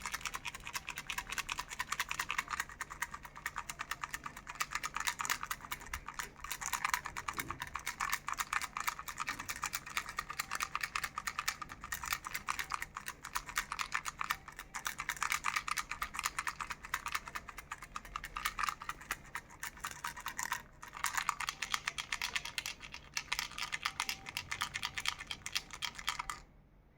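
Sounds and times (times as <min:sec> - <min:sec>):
plastic rattle being shaken: 0:00.0 - 0:26.4.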